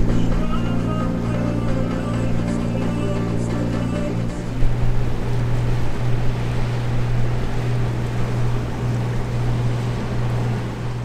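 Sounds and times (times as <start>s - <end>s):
boat engine droning: 0.0s - 11.0s
water noise: 0.0s - 11.0s
wind rushing: 0.0s - 11.0s.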